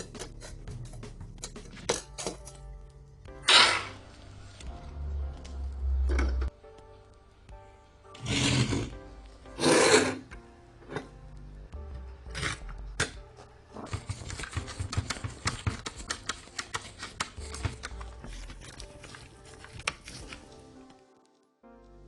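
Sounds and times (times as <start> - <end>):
faint background music: 0.0 - 22.0.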